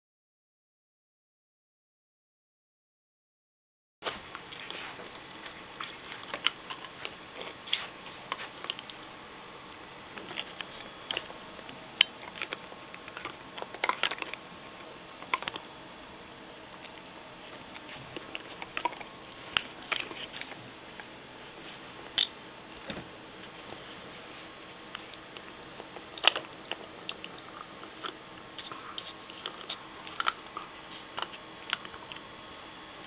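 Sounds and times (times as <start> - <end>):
puppy chewing a rawhide bone: 4.1 - 33.0.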